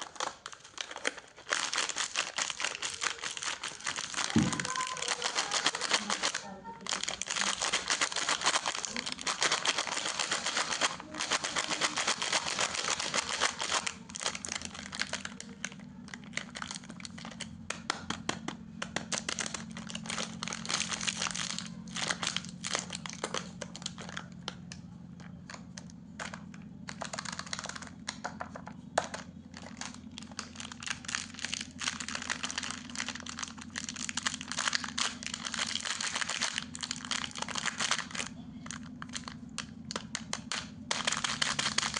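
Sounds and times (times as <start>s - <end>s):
wrapper crinkling: 0.0s - 18.2s, 18.9s - 41.9s
steady low hum: 0.0s - 41.9s.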